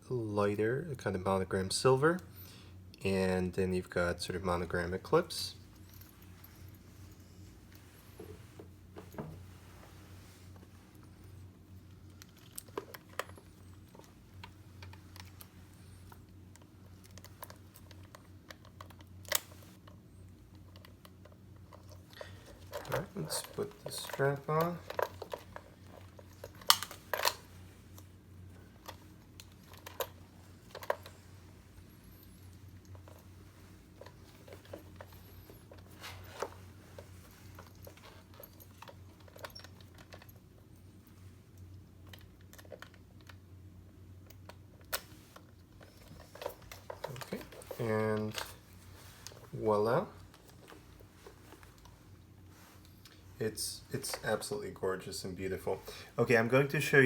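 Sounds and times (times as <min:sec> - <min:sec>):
low steady hum: 0:00.0 - 0:57.0
strap clasps clicking and rustling: 0:05.7 - 0:09.6, 0:10.5 - 0:43.4, 0:44.2 - 0:54.5.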